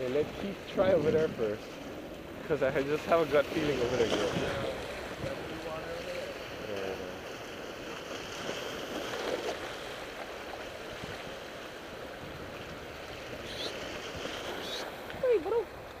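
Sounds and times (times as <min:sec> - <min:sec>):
surf: 0:00.0 - 0:16.0
wind: 0:00.0 - 0:16.0.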